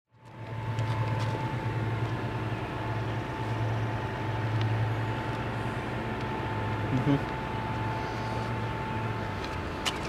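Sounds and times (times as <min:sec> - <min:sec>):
diesel train engine drone: 0:00.1 - 0:10.0.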